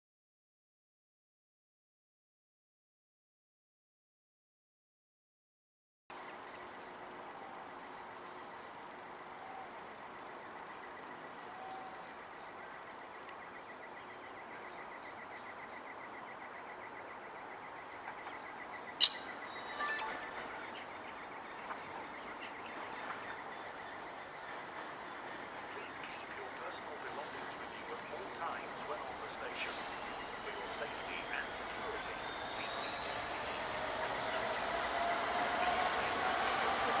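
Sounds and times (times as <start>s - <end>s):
faint bird chirps: 7.4s - 37.0s.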